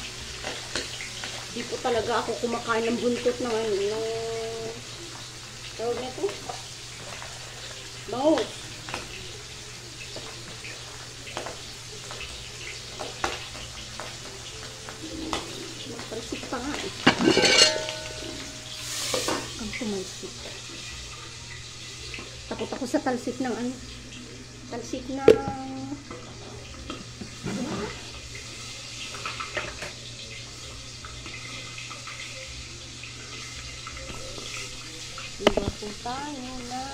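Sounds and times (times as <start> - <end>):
fish sizzling in hot oil: 0.0 - 36.9.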